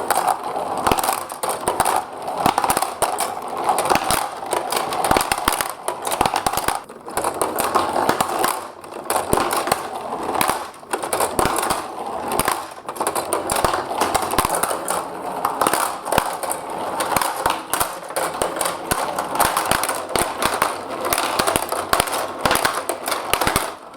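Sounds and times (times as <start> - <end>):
marbles clicking and clacking: 0.0 - 23.9
marbles rolling down a track: 0.0 - 23.9.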